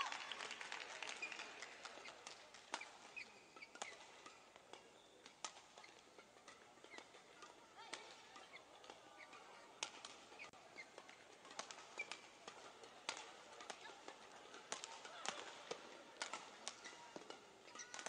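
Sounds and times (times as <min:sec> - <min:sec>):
shoes squeaking on court: 0:01.1 - 0:14.9, 0:15.6 - 0:18.0
racket striking shuttlecock: 0:01.8 - 0:18.0.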